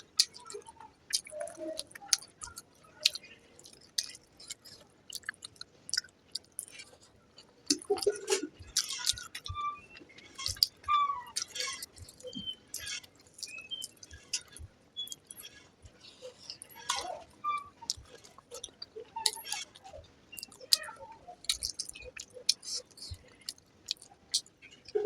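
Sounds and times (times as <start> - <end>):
wet chewing and lip-smacking: 0.0 - 25.0.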